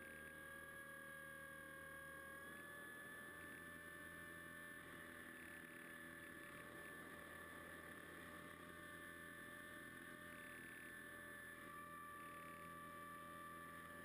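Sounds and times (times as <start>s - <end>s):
model plane motor whine: 0.0s - 14.0s.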